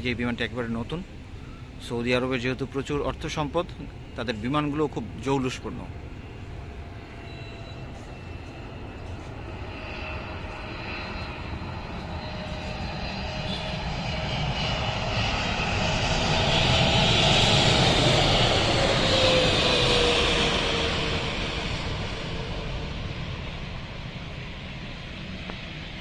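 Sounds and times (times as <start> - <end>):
jet airliner engines whining: 0.0 - 26.0.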